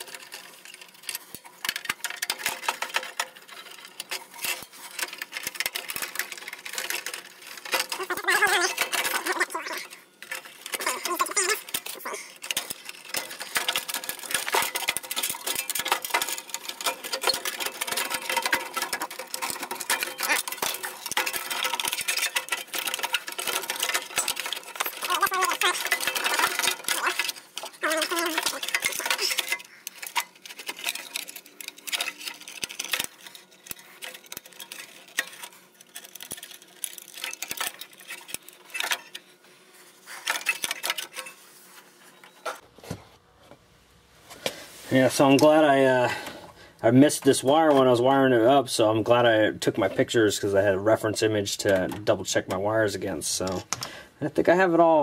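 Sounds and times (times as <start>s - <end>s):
wires rustling: 0.0s - 55.0s.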